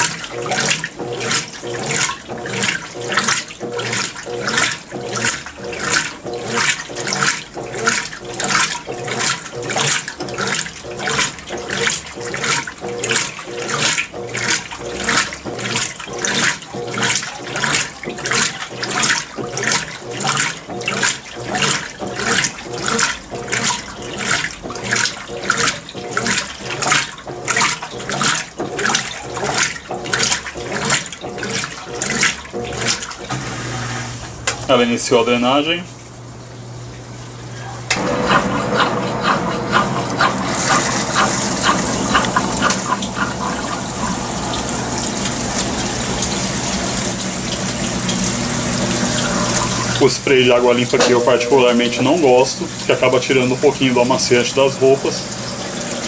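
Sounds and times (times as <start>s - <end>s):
washing machine swishing churn: 0.0s - 56.0s.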